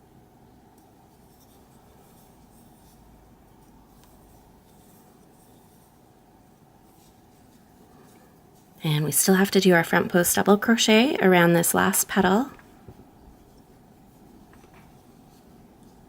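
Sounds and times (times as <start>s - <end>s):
crochet hook rustling yarn: 0.0s - 16.0s.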